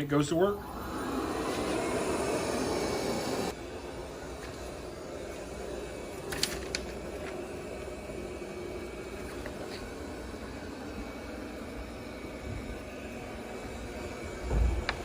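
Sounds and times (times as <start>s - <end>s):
robot vacuum whirring: 0.3s - 15.0s.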